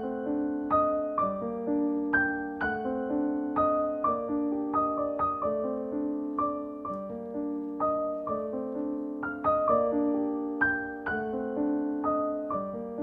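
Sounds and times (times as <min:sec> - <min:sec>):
gentle solo piano music: 0:00.0 - 0:13.0.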